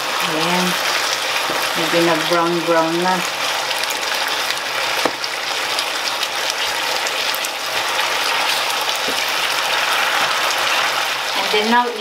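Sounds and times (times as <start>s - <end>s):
chicken sizzling in frying pan: 0.0s - 12.0s.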